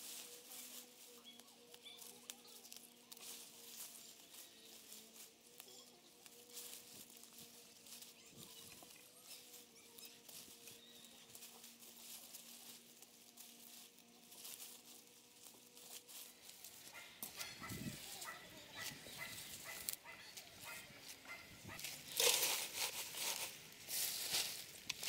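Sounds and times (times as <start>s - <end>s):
leaves rustling and crackling: 0.0s - 25.0s.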